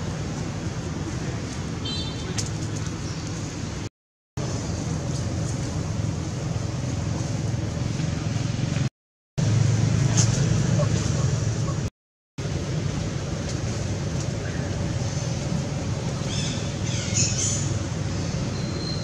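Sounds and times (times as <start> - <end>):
outdoor background rumble and hiss: 0.0 - 19.0.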